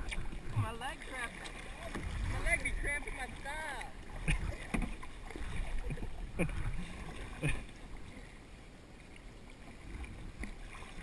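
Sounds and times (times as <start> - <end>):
kayak paddle splashing in water: 0.0 - 11.0
water washing against hull: 0.0 - 11.0.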